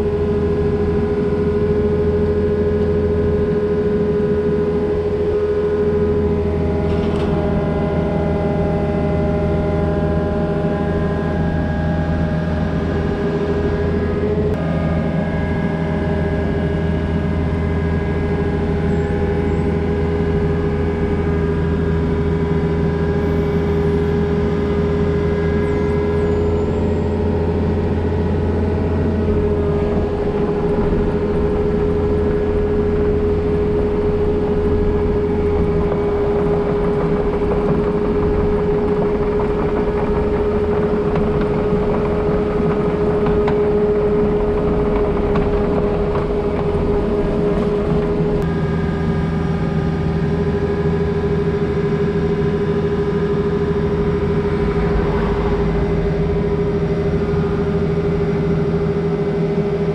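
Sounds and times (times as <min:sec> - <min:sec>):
constant whine: 0:00.0 - 0:59.9
excavator engine running: 0:00.0 - 0:59.9.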